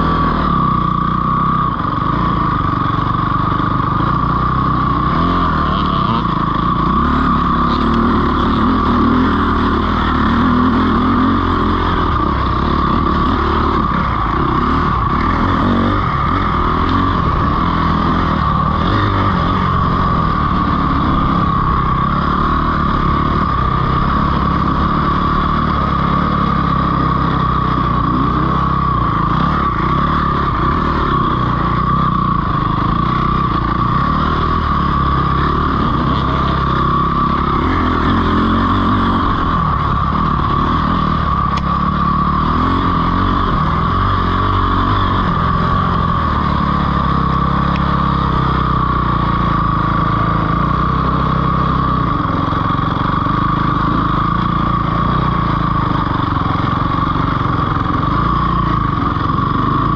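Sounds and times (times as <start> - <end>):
dirt bike engine revving: 0.0 - 59.9
steady high whine: 0.0 - 59.9.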